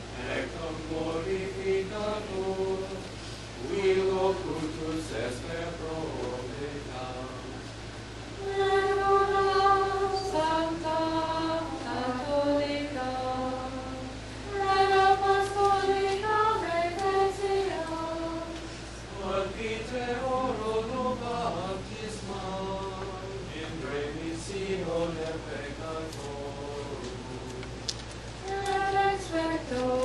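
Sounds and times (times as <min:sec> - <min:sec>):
voices singing a chant: 0:00.2 - 0:07.8, 0:08.4 - 0:27.8, 0:28.4 - 0:30.0.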